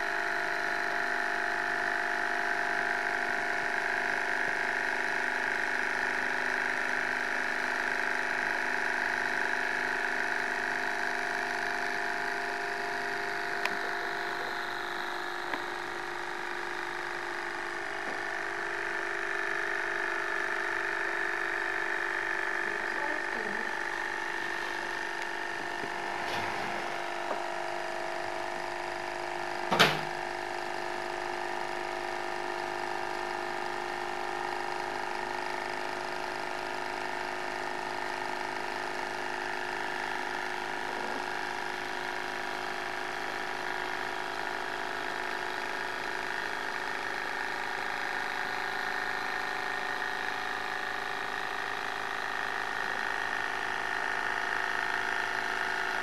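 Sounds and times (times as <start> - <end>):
model engine whirring: 0.0 - 29.6, 30.3 - 56.0.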